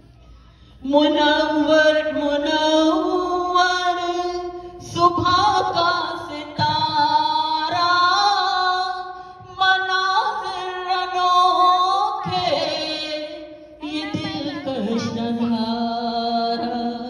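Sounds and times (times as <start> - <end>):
person singing: 0.8 - 17.0.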